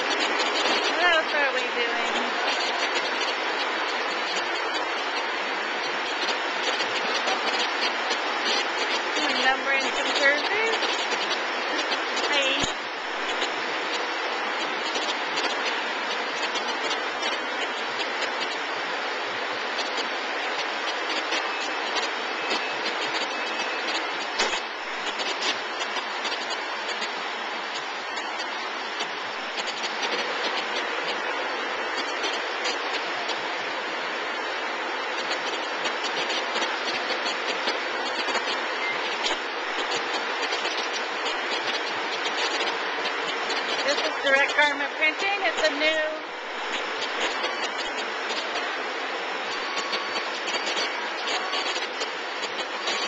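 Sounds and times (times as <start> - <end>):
steady machine noise with hiss: 0.0 - 53.0.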